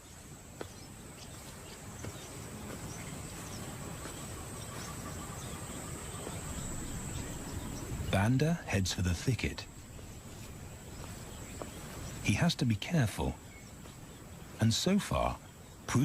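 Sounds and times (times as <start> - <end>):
insects trilling: 0.0 - 16.0
low background rumble: 2.5 - 15.8.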